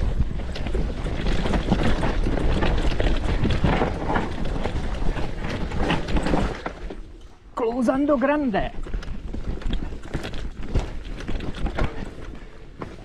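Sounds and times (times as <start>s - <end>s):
bike rattling over rocks: 0.0s - 13.0s.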